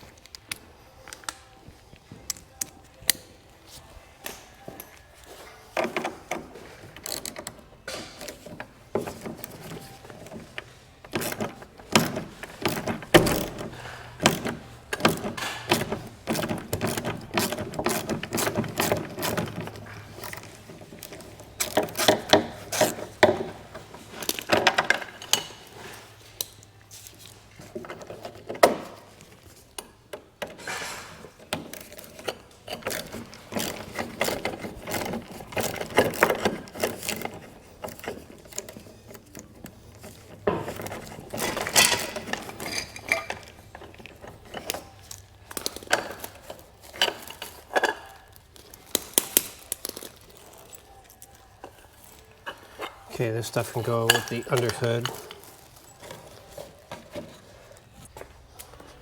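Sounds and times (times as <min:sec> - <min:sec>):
small metal parts clattering: 0:05.8 - 0:58.2.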